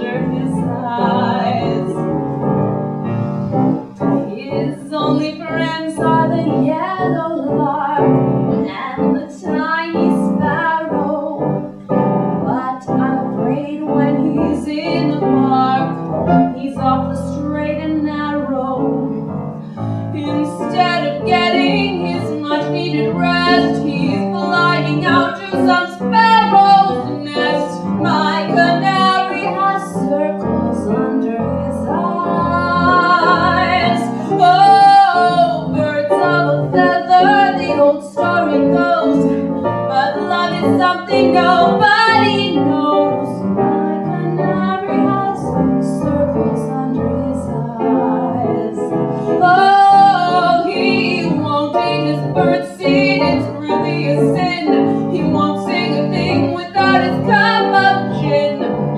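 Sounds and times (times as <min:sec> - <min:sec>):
woman singing cabaret song: 0:00.0 - 0:02.1, 0:04.0 - 0:11.8, 0:12.4 - 0:19.3, 0:20.1 - 0:58.9
piano accompaniment: 0:00.0 - 0:58.9.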